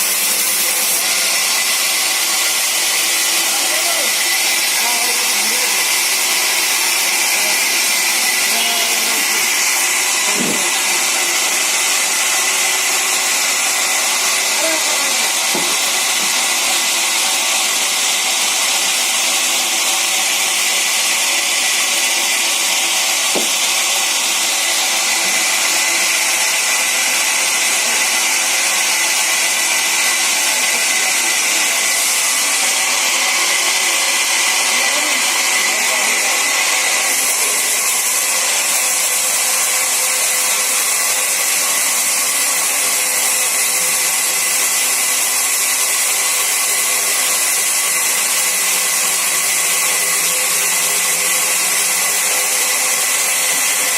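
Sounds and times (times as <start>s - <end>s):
sawmill saw hissing: 0.0s - 53.9s.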